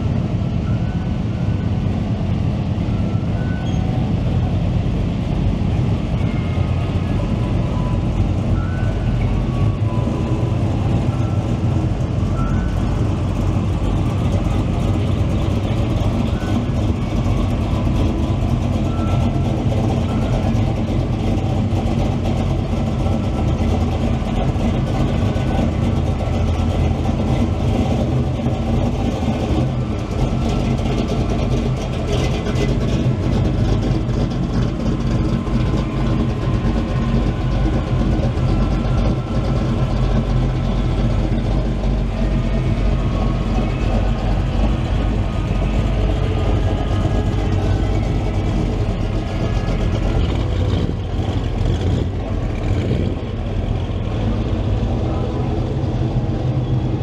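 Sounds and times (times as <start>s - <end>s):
car and truck engines idling: 0.0s - 57.0s.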